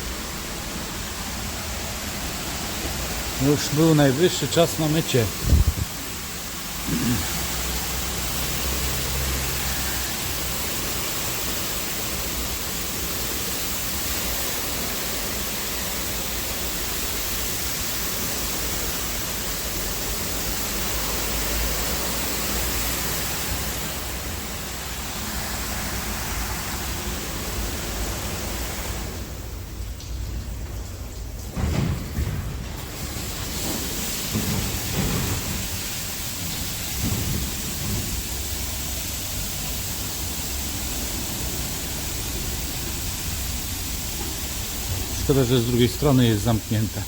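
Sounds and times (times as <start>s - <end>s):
water jets spraying: 0.0s - 47.0s.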